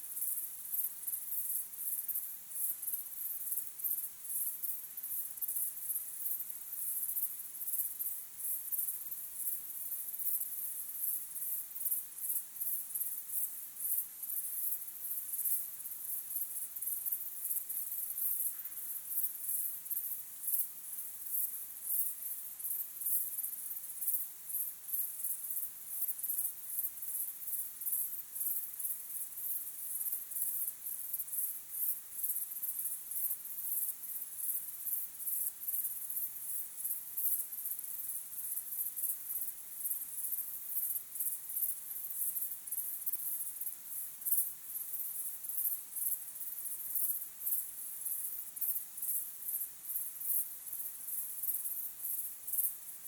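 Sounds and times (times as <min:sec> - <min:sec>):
crickets chirping: 0:00.0 - 0:52.9.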